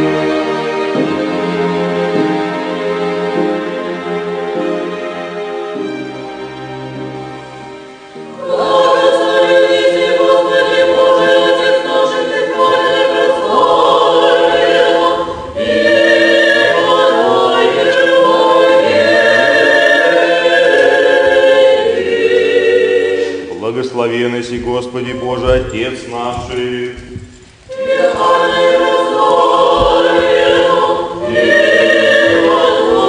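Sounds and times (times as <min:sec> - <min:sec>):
church choir singing: 0:00.0 - 0:33.0.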